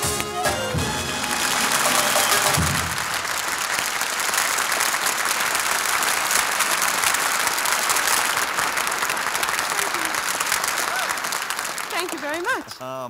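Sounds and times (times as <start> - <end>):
studio audience applauding: 0.0 - 13.0.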